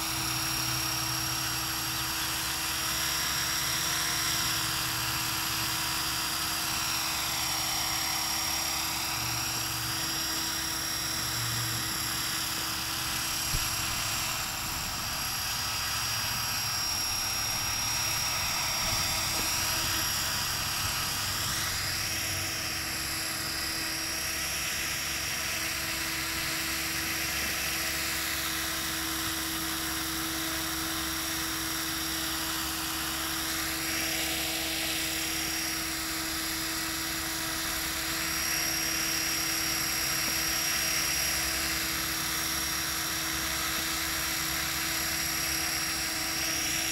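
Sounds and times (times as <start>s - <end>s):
rc helicopter motor whine: 0.0s - 46.9s.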